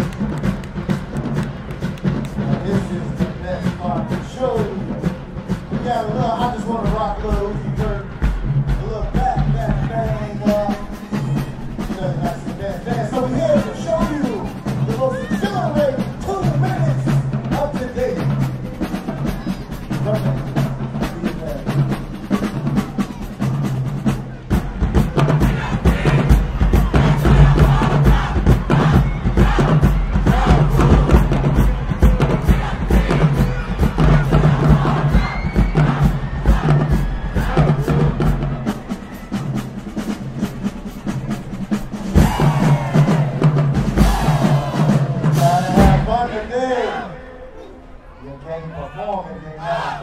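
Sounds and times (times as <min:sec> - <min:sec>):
bass drums and snares: 0:00.0 - 0:46.2
marching band playing: 0:00.0 - 0:47.6.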